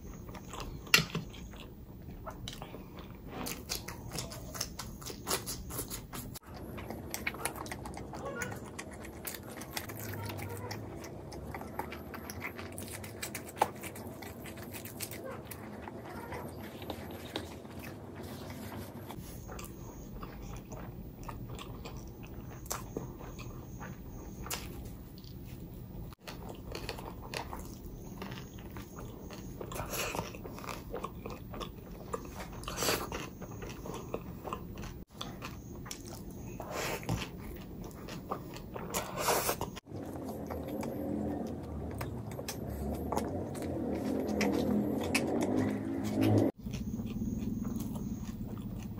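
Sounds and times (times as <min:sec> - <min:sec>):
person biting and chewing food: 0:00.0 - 0:48.9.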